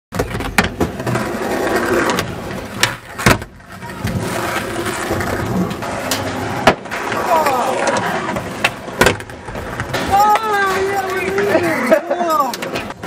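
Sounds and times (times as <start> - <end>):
skateboard clacks: 0.1 - 13.0
skateboard wheels rolling on pavement: 0.1 - 13.0.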